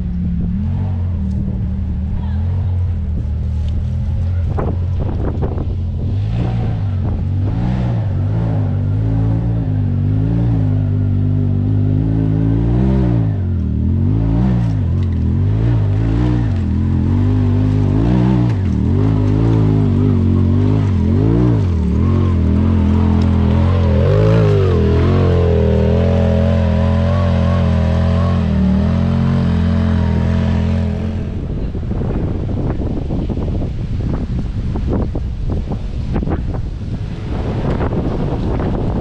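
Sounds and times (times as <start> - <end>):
vehicle engine revving: 0.0 - 39.0.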